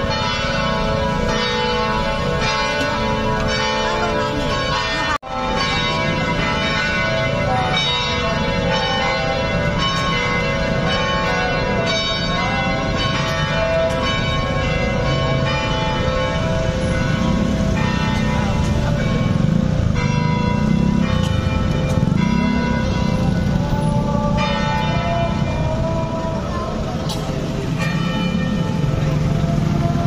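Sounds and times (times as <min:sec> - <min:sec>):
church bells ringing a peal: 0:00.0 - 0:30.0.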